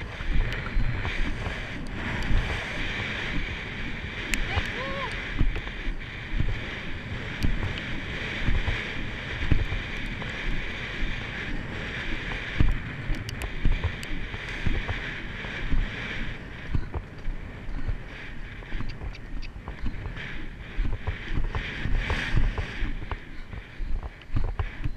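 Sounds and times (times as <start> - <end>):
horse hoofbeats on dirt: 0.0 - 24.9
tack and rider moving: 0.0 - 24.9
wind on microphone: 0.0 - 24.9.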